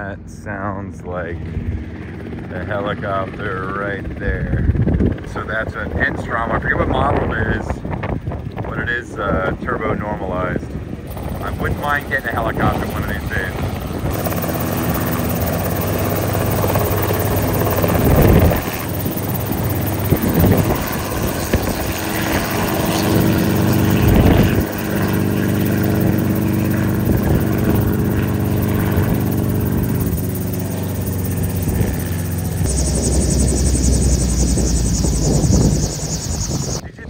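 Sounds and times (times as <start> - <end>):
helicopter engine and rotor: 0.9 - 37.0.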